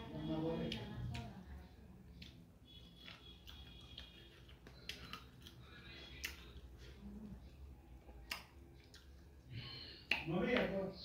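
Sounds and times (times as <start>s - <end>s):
wet chewing clicks and smacks: 0.7s - 6.9s, 7.5s - 10.8s.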